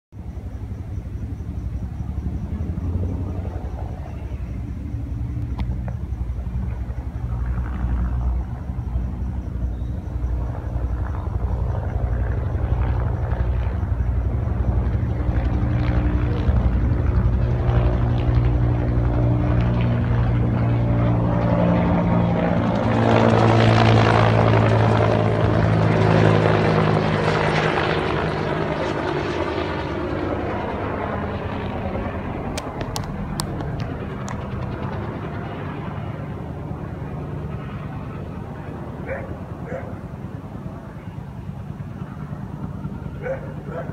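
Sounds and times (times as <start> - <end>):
helicopter flying over: 0.2 - 43.9.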